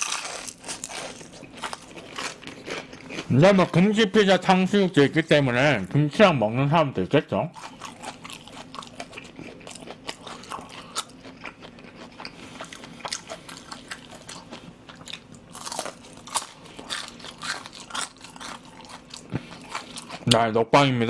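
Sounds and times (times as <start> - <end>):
chewing crispy fried pork: 0.0 - 6.3, 7.5 - 20.6.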